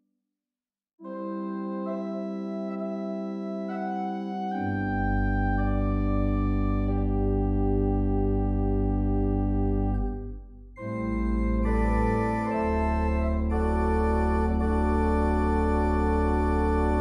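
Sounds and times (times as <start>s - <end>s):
organ playing slow chords: 1.0s - 17.0s.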